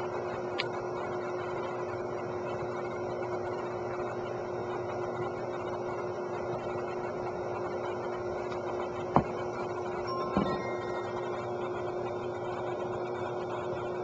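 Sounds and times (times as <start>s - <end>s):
steady hum and hiss: 0.0s - 14.0s.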